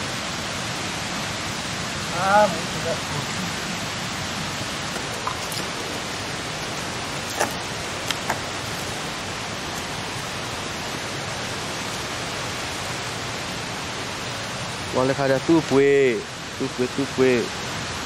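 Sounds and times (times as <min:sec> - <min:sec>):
steady rushing hiss: 0:00.0 - 0:18.0.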